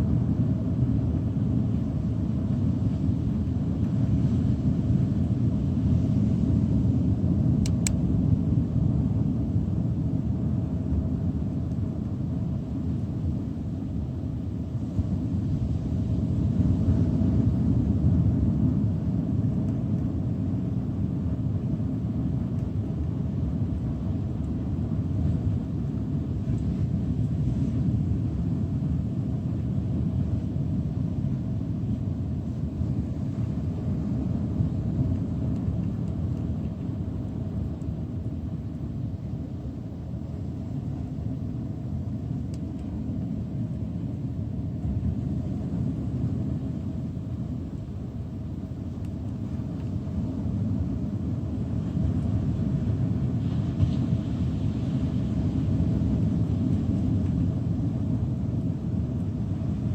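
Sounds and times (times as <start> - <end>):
faint steady hum: 0.0 - 59.9
low rumbling noise: 0.0 - 59.9.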